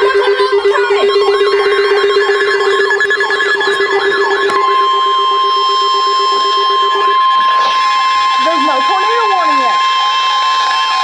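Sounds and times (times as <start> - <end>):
fast-pulsing low buzz: 0.0 - 11.0
high warble: 0.0 - 11.0
steady high tone: 0.0 - 11.0
sweeping siren-like whoops: 0.0 - 11.0.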